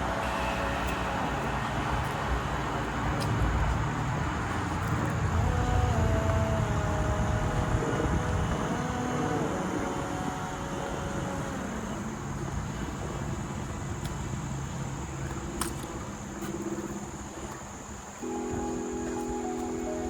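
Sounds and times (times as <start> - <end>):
insects buzzing: 0.0 - 20.0
road traffic rumbling: 0.0 - 20.0.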